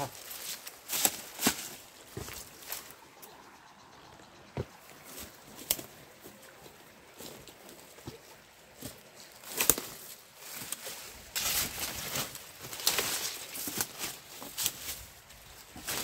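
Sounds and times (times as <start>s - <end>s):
footsteps crunching through brush: 0.0s - 3.4s, 4.4s - 16.0s.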